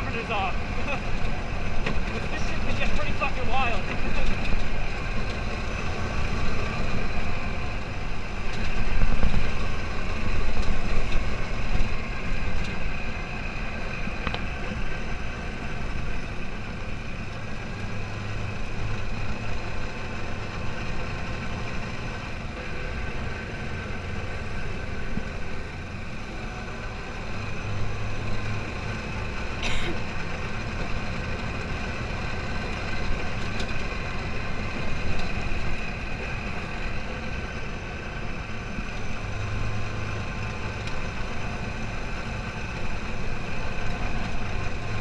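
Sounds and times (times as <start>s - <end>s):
dune buggy engine running: 0.0s - 45.0s.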